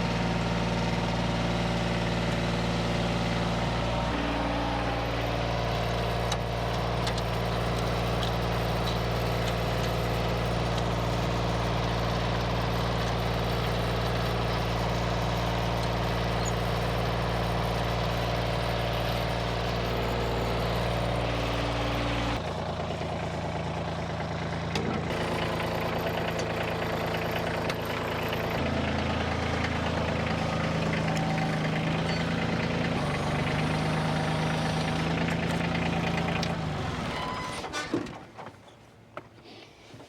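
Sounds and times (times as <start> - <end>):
tractor diesel engine running: 0.0 - 38.4.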